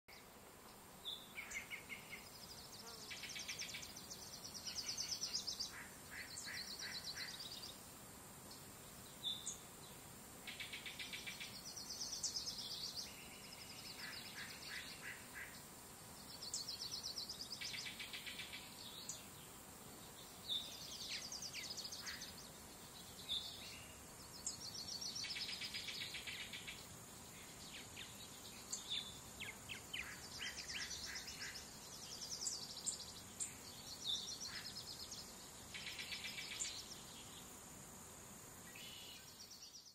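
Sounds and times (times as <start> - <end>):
faint steady hiss: 0.1 - 39.9
songbirds singing trilled phrases: 1.1 - 7.8, 10.5 - 19.4, 20.1 - 37.4.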